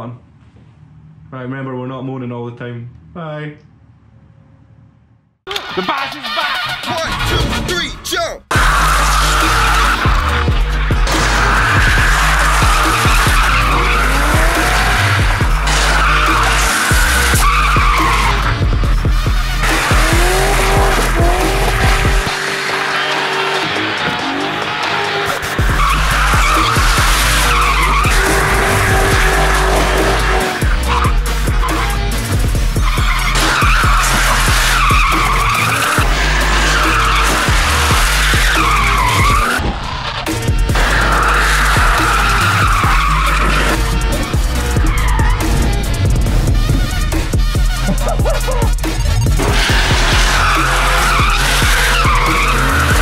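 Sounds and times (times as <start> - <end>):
music with heavy bass and beat: 5.5 - 39.6, 40.3 - 53.0
car engines revving: 8.5 - 53.0
tyres squealing: 8.5 - 53.0.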